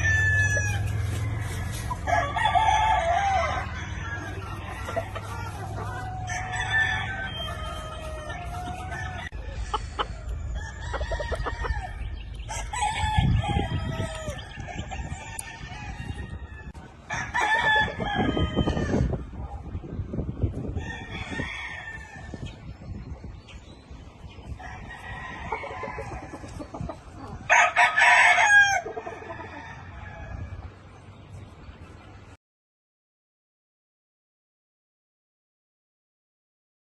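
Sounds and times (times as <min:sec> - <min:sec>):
roosters crowing: 0:00.0 - 0:31.0.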